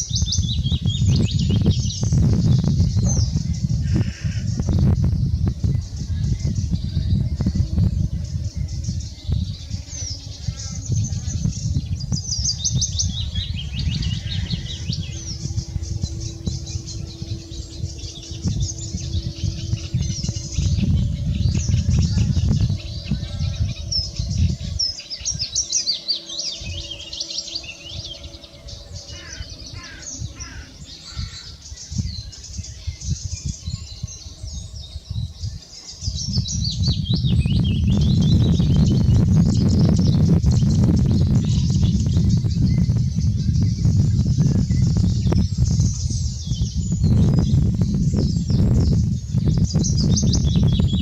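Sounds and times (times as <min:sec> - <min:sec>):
faint steady hum: 0:00.0 - 0:51.0
low uneven rumble: 0:00.0 - 0:51.0
small birds singing: 0:00.0 - 0:51.0.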